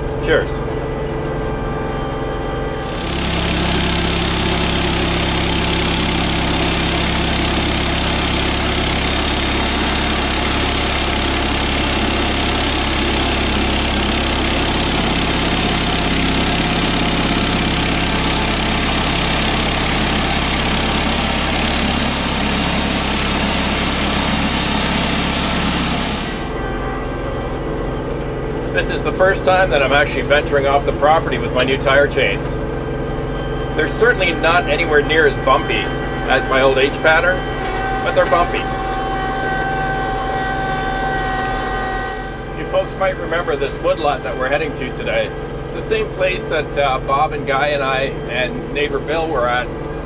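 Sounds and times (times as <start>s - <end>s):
sawmill engine running: 0.0s - 50.0s.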